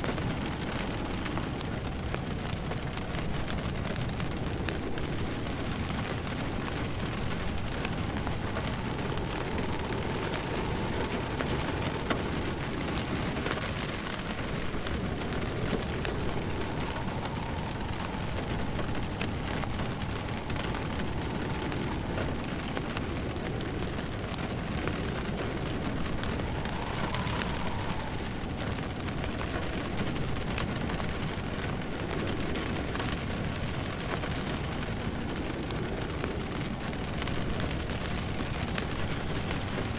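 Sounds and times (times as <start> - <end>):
low wind howl: 0.0 - 39.9
steady rain falling: 0.0 - 39.9
wood fire crackling: 0.0 - 39.9.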